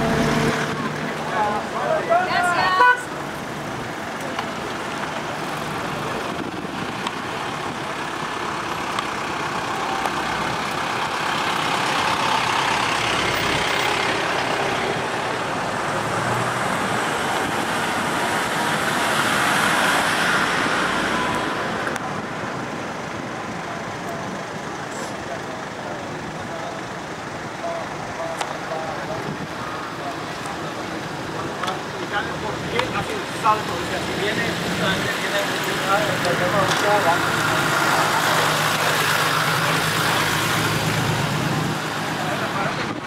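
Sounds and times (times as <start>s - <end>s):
cars passing: 0.0s - 43.0s.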